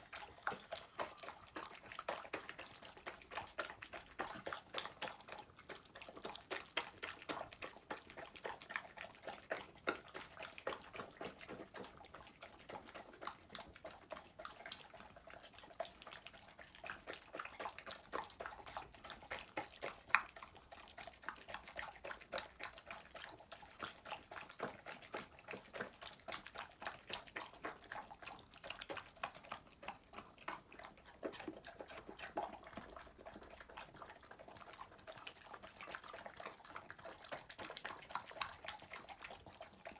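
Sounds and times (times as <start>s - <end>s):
pet chewing from a bowl: 0.0s - 39.9s.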